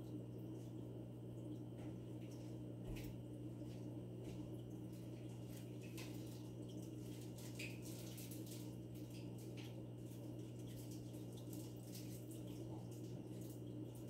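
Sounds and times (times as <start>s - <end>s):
aquarium equipment hum: 0.0s - 14.0s
water trickling: 0.0s - 14.0s.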